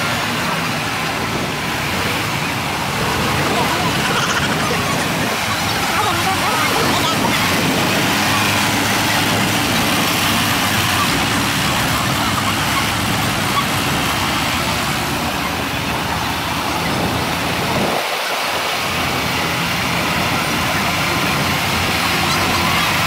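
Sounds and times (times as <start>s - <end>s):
diesel tractor engines running: 0.0s - 23.0s.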